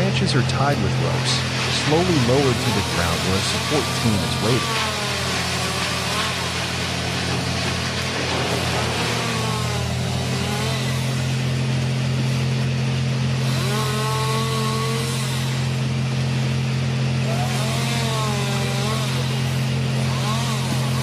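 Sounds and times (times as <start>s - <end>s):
chainsaw engine running: 0.0s - 21.0s.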